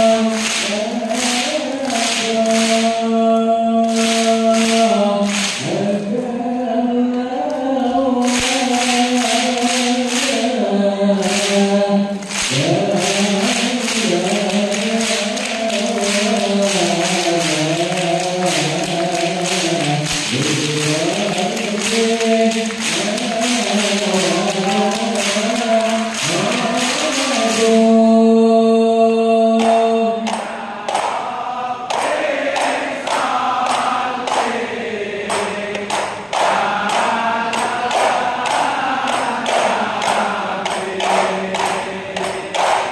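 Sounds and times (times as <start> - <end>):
crowd of men chanting in unison: 0.0 - 42.9.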